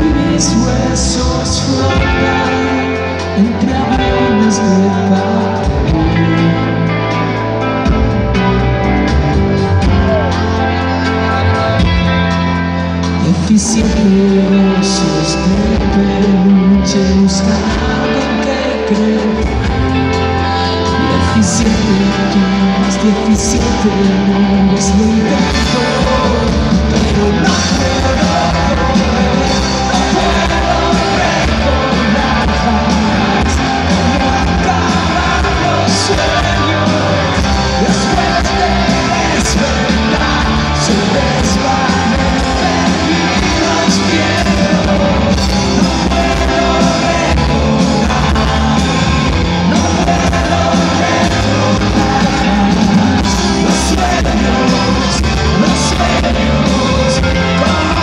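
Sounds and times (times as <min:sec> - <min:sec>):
live rock band playing: 0:00.0 - 0:58.0
male lead singer: 0:00.0 - 0:58.0.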